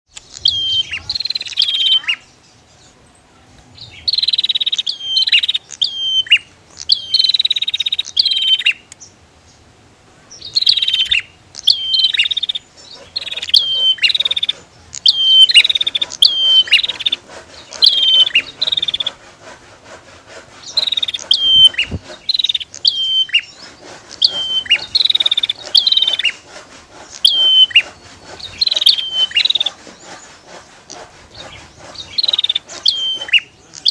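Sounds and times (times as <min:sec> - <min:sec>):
bird calling buzzy phrases: 0:00.1 - 0:33.9.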